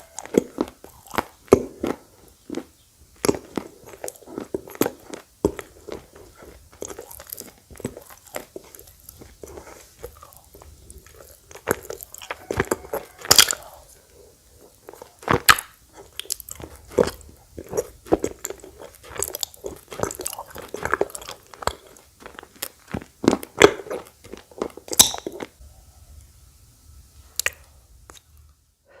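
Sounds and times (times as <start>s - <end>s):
crunching and chewing clay: 0.0s - 25.6s.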